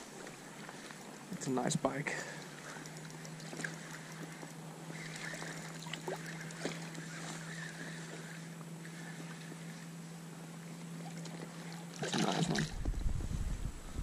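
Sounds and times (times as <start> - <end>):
water lapping and splashing: 0.0 - 13.2
steady low hum: 0.0 - 14.0.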